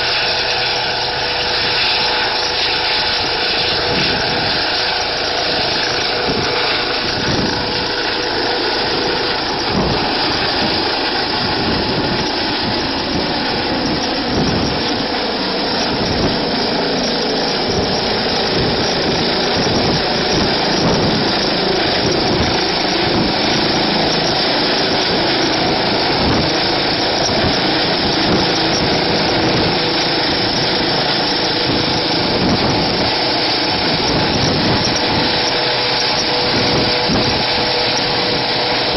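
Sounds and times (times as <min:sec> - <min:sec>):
helicopter engines and rotor: 0:00.0 - 0:38.9.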